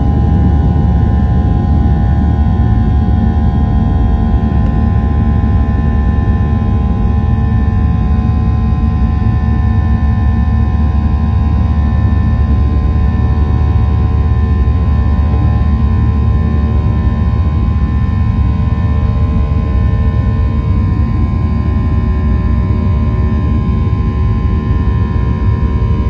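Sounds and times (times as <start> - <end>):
jet engine rumble in cabin: 0.0 - 26.0.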